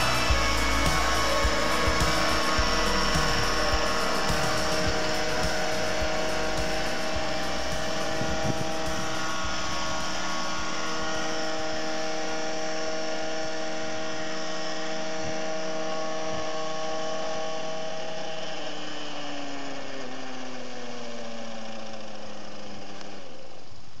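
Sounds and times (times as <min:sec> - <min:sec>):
model helicopter engine and rotor: 0:00.0 - 0:24.0.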